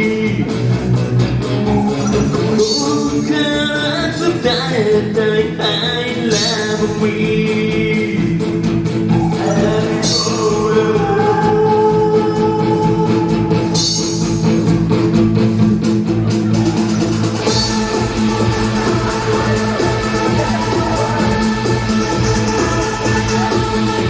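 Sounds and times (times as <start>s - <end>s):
drums and cymbal strokes: 0.0s - 24.0s.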